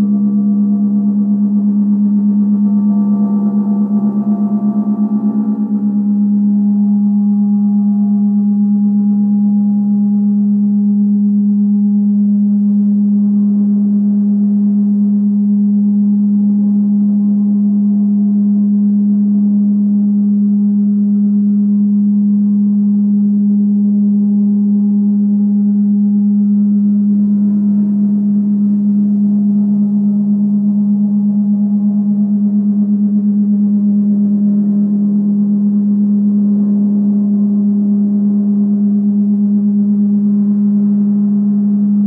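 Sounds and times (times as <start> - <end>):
reversed gong hum: 0.0 - 42.0.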